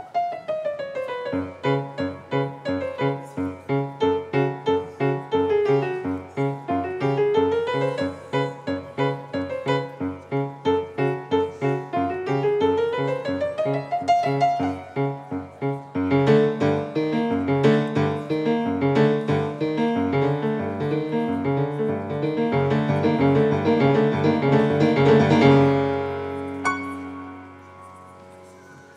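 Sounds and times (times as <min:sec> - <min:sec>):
grand piano playing: 0:00.0 - 0:28.9.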